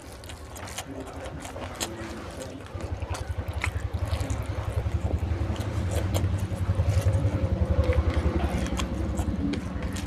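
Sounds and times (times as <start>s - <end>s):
person chewing close to microphone: 0.0s - 10.0s
wet mouth clicks: 0.0s - 10.0s.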